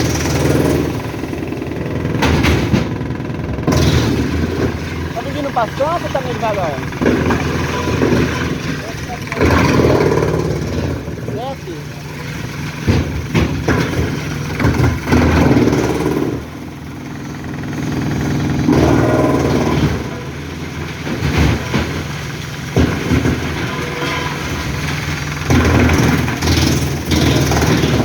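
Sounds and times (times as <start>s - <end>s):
knocks and clunks: 0.0s - 28.0s
truck engine running: 0.0s - 28.0s.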